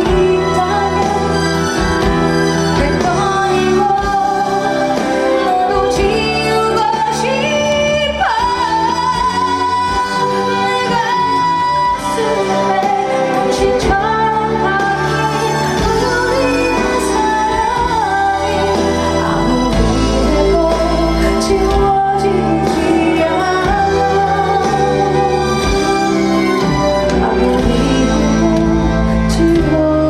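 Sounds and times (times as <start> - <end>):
band accompaniment: 0.0 - 30.0
woman singing: 0.0 - 30.0.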